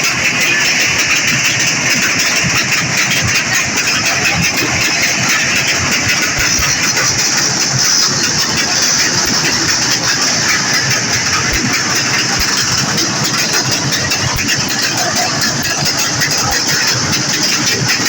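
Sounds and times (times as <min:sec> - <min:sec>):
vehicle engine running loudly: 0:00.0 - 0:18.0.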